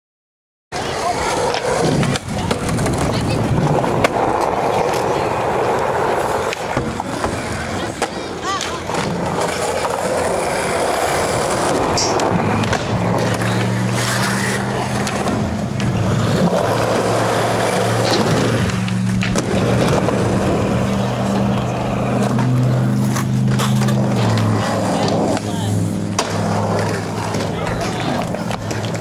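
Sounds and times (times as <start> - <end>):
skateboard wheels rolling on concrete: 0.7 - 29.0
skateboard clacks: 0.8 - 29.0.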